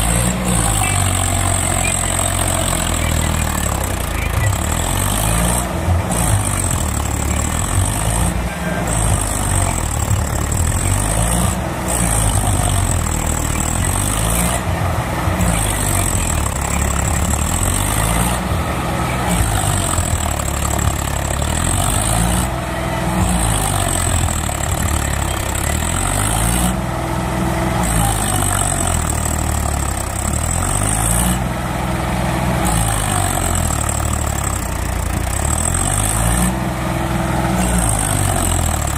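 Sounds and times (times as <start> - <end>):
tractor diesel engine labouring: 0.0 - 38.9.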